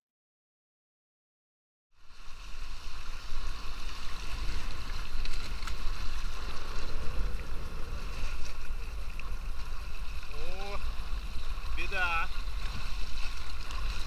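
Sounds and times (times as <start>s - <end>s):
water splashing along a hull: 1.9s - 14.0s
wind buffeting microphone: 2.2s - 14.0s.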